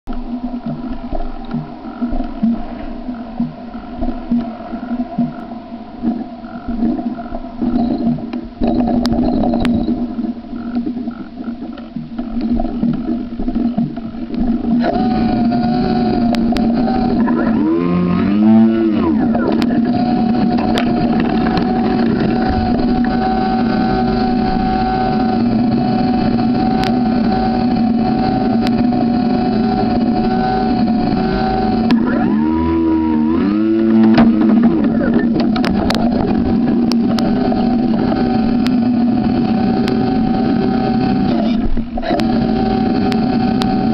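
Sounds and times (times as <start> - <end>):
electric motor high whine: 0.1 - 43.9.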